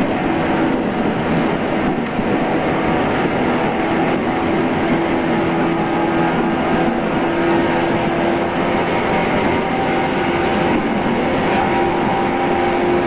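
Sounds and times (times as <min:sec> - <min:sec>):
motor and gear hum: 0:00.0 - 0:13.0
train running rumble: 0:00.0 - 0:13.0.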